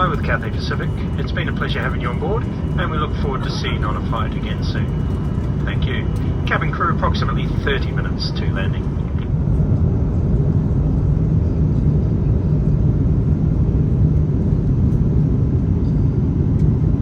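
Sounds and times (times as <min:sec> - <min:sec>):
airflow over fuselage: 0:00.0 - 0:17.0
airplane cabin engine rumble: 0:00.0 - 0:17.0.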